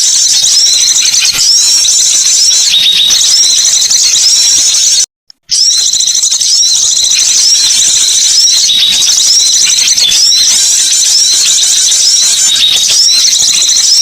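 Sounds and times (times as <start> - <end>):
small songbirds twittering: 0.0 - 14.0.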